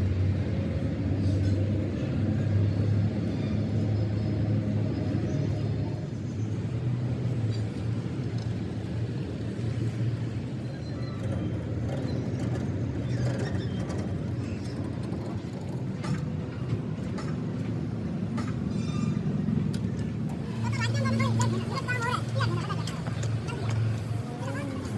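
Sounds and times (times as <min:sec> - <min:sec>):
engine humming: 0:00.0 - 0:24.9.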